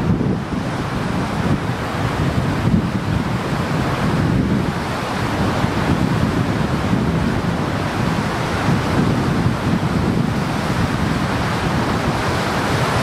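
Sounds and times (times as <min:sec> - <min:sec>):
waves washing on lake: 0:00.0 - 0:13.0
wind buffeting microphone: 0:00.0 - 0:13.0.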